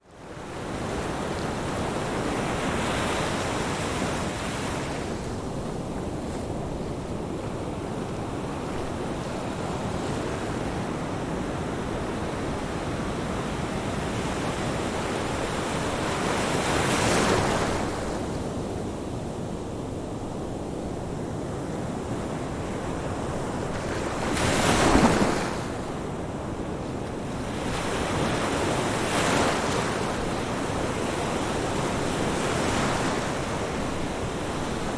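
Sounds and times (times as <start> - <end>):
ocean waves breaking on shore: 0.1 - 34.9.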